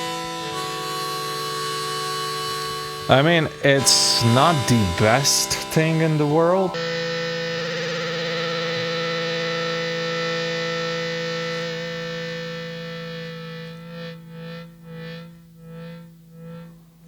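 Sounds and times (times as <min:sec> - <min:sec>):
looped sustained harmonica chord: 0:00.0 - 0:16.9.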